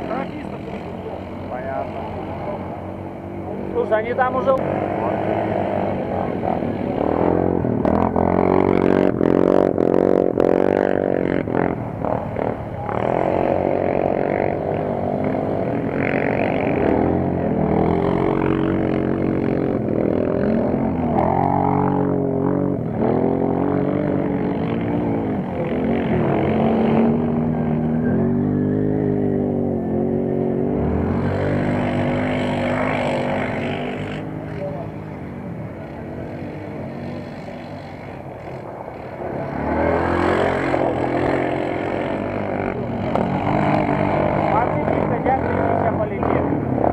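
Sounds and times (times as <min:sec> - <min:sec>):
quad bike engines revving: 0:00.0 - 0:46.9.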